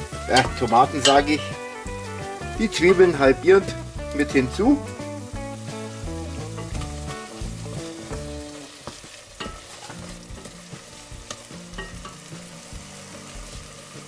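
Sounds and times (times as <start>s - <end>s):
sizzling: 0.0s - 14.0s.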